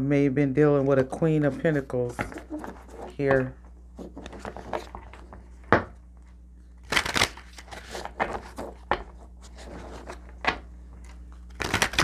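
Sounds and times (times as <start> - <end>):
low steady hum: 0.0 - 12.0
cards rustling: 0.8 - 12.0.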